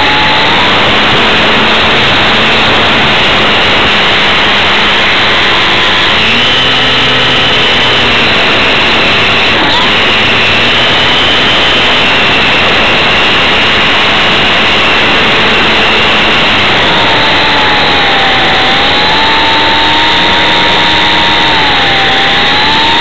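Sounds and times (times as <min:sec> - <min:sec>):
lower wavering whine: 0:00.0 - 0:23.0
model airplane motor whine: 0:00.0 - 0:23.0
rushing wind noise: 0:00.0 - 0:23.0.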